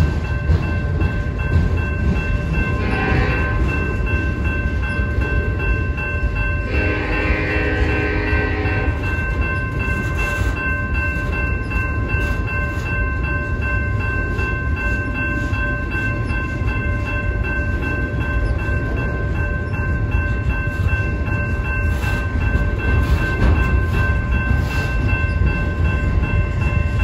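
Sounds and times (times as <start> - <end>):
high ringing tones: 0.0 - 27.0
train wheels rumbling on rail: 0.0 - 27.0.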